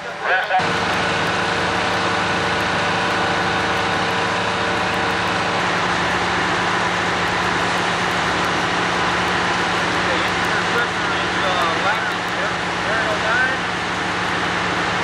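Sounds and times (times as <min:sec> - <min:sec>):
fire engine idling: 0:00.0 - 0:15.0.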